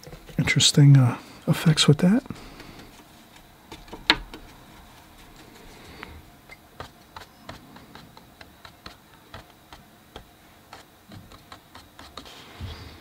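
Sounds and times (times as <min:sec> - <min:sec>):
brush tapping on paper: 0:00.0 - 0:12.8.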